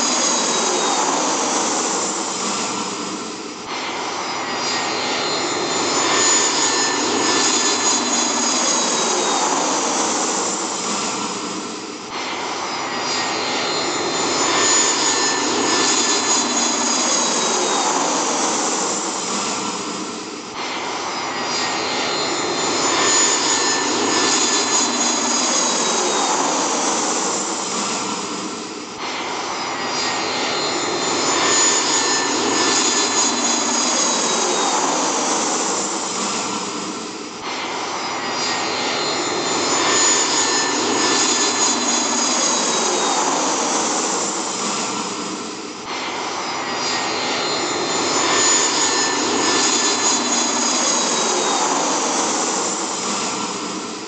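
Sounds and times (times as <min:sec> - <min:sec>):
jet engine rush and whine: 0:00.0 - 0:54.0.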